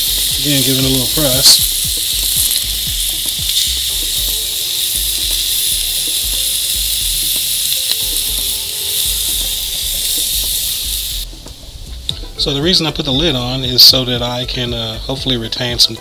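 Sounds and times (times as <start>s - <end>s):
steak sizzling on grill: 0.0s - 16.0s.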